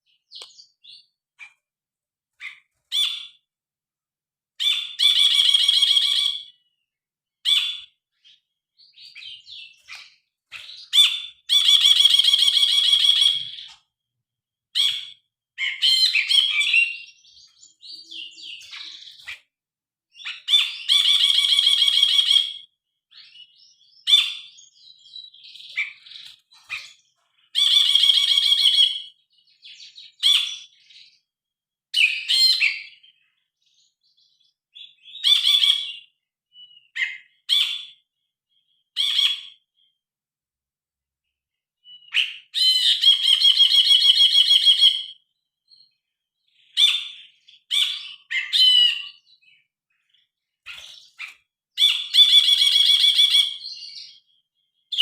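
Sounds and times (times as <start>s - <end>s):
bird sharp calls and warbles: 0.0s - 1.7s, 2.3s - 3.5s, 4.6s - 14.0s, 14.7s - 40.0s, 41.3s - 55.0s.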